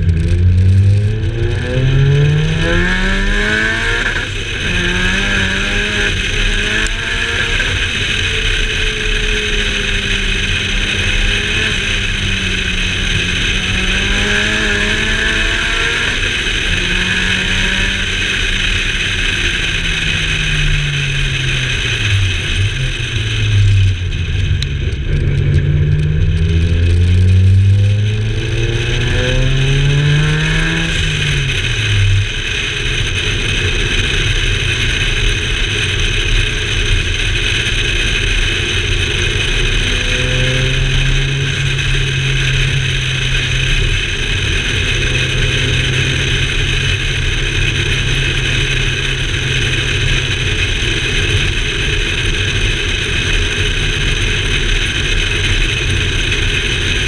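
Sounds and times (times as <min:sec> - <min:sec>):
car engine accelerating: 0:00.0 - 0:57.0
wind and tyre noise: 0:00.0 - 0:57.0.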